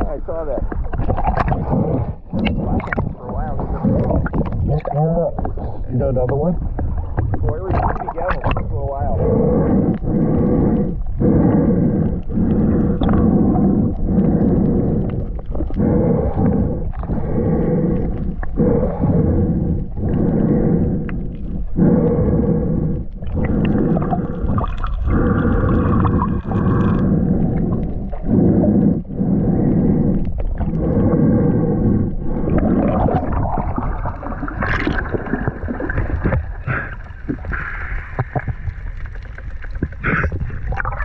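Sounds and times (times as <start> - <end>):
faint steady hum: 0.0 - 41.0
muffled underwater rumble: 0.0 - 41.0.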